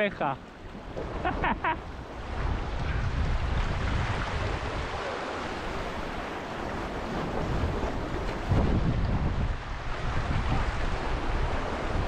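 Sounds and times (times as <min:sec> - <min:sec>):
waves splashing on rocks: 0:00.0 - 0:12.0
wind buffeting microphone: 0:00.6 - 0:12.0.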